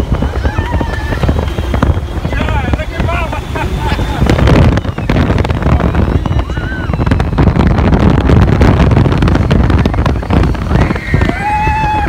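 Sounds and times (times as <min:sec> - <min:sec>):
ride vehicle rumbling: 0:00.0 - 0:12.0
wind buffeting microphone: 0:00.0 - 0:12.0.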